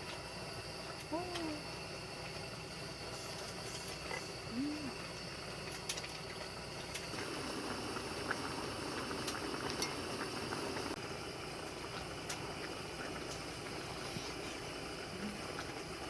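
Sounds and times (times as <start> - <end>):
pot bubbling: 0.0 - 16.0.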